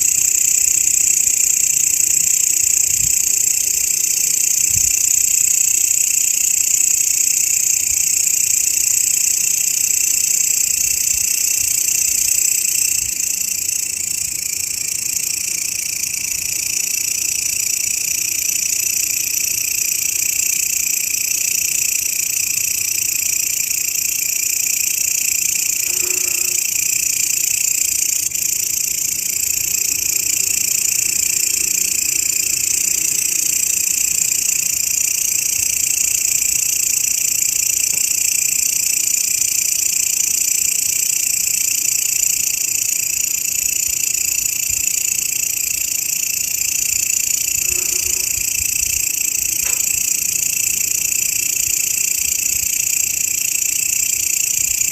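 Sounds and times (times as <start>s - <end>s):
grasshopper stridulation buzzing: 0.0s - 54.9s.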